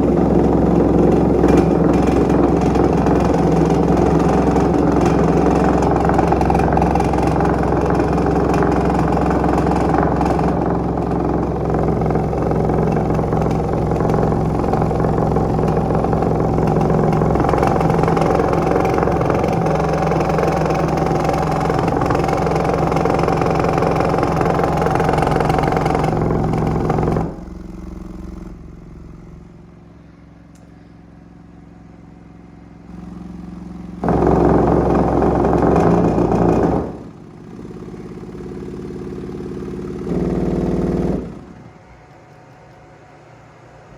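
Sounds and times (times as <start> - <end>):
subwoofer buzzing drone: 0.0 - 42.1.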